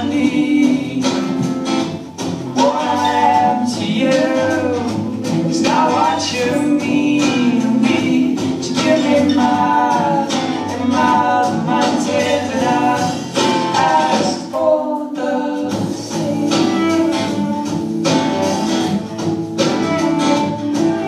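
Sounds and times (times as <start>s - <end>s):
song with singing and instruments: 0.0s - 21.0s.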